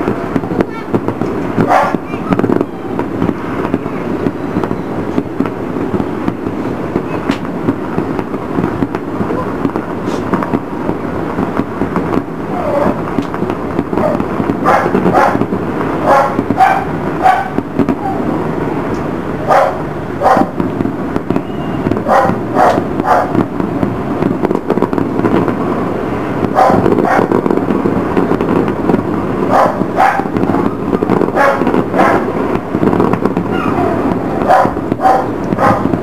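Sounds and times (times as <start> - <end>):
fireworks bangs: 0.0 - 36.0
fireworks rumble: 0.0 - 36.0.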